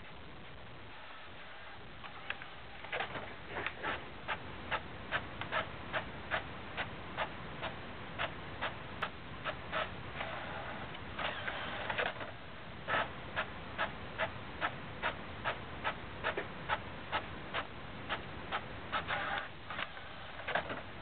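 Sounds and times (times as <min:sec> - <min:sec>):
printer whir: 0:01.0 - 0:21.0.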